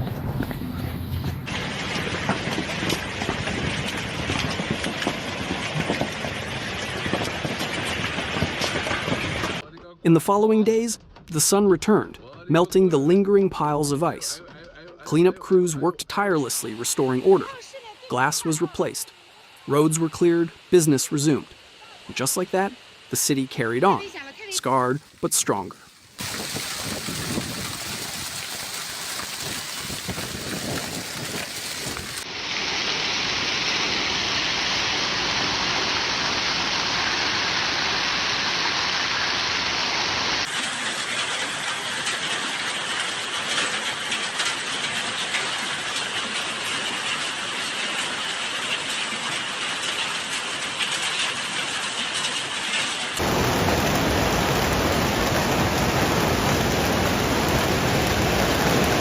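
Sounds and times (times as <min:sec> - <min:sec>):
heavy rain downpour: 0:00.0 - 0:09.6, 0:16.2 - 0:59.0.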